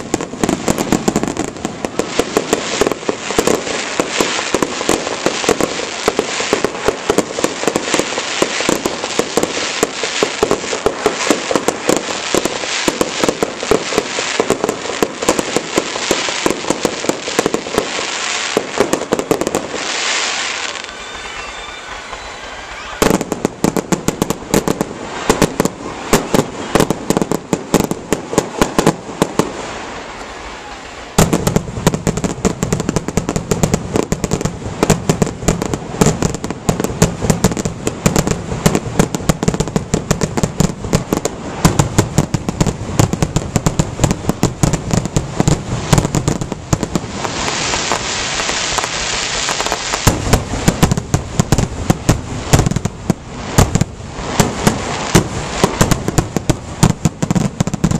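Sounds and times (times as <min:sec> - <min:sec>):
crackling hiss: 0:00.0 - 0:57.9
fireworks bangs and crackles: 0:00.0 - 0:57.9.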